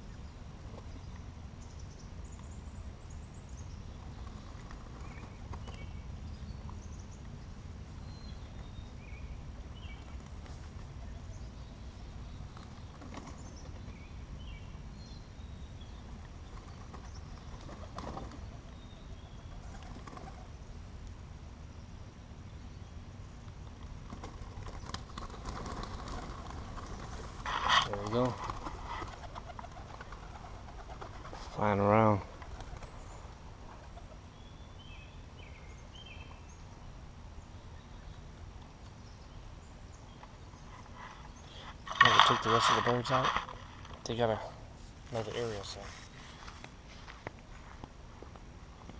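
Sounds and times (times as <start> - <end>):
birds chirping: 0.0 - 21.0, 21.6 - 48.9.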